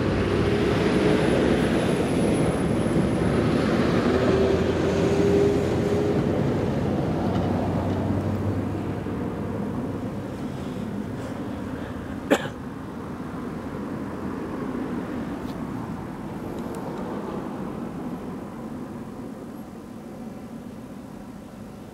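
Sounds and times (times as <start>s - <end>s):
lorry engines rumbling: 0.0s - 21.9s.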